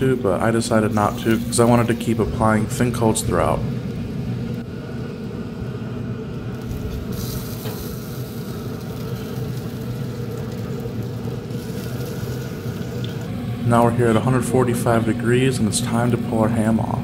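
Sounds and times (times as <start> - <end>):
faint sizzling hiss: 0.0 - 4.6, 6.4 - 17.0
pellet grill rumbling: 0.0 - 17.0.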